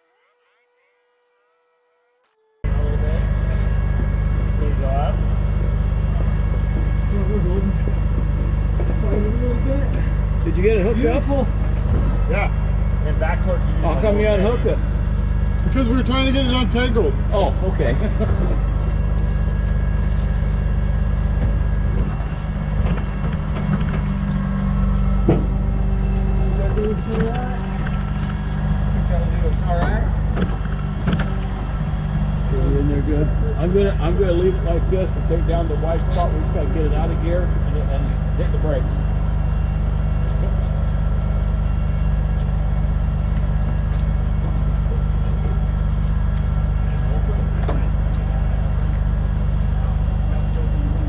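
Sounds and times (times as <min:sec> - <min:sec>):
diesel engine idling: 0:02.6 - 0:51.0.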